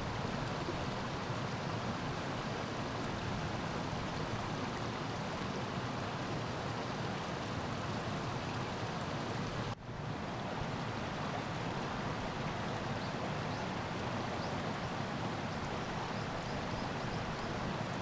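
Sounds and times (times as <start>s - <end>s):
shallow water rushing: 0.0s - 18.0s.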